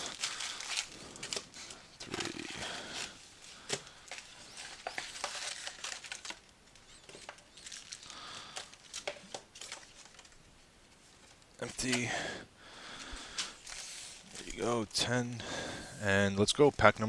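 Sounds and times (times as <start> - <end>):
wrappers crinkling and rustling: 0.0 - 12.1, 13.0 - 15.3.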